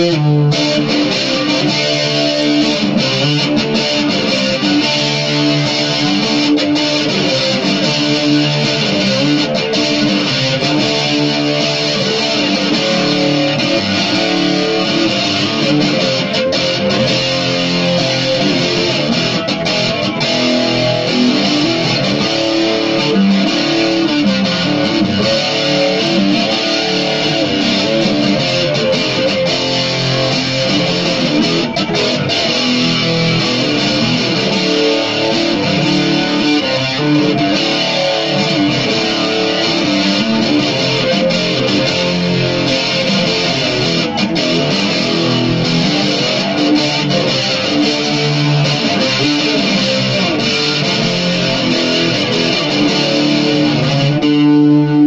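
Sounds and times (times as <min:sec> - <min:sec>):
electric guitar rock piece: 0:00.0 - 0:55.0.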